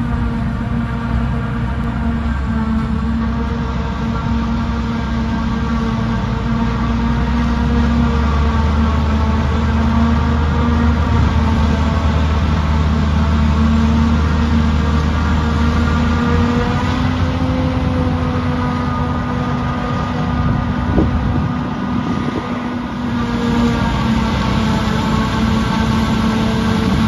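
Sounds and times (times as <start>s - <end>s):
harvester machine drone: 0.0s - 27.0s.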